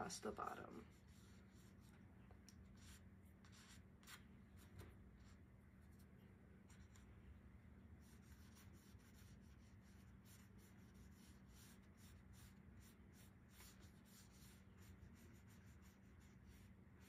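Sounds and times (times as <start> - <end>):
paintbrush swishing on paper: 0.0 - 2.0, 2.6 - 7.1, 8.0 - 17.0
low room hum: 0.0 - 17.0.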